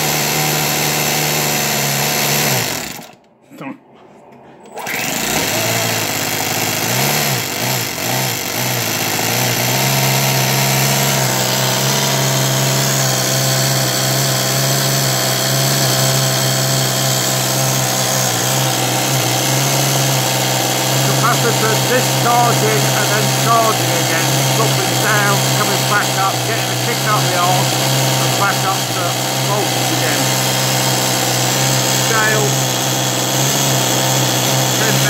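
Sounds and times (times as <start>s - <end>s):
model engine running: 0.0s - 3.2s, 4.7s - 35.0s.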